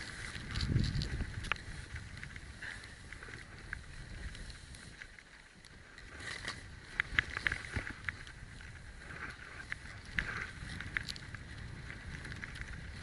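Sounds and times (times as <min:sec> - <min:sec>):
wind buffeting microphone: 0:00.0 - 0:05.1, 0:05.7 - 0:13.0.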